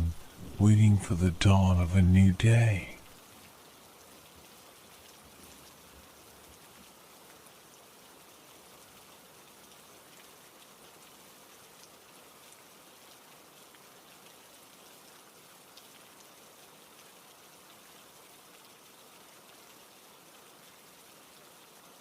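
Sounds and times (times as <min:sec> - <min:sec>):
faint steady rain: 0:00.0 - 0:22.0.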